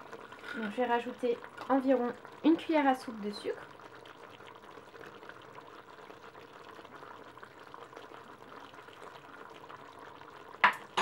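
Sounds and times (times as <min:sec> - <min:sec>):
food bubbling in pot: 0:00.0 - 0:11.0.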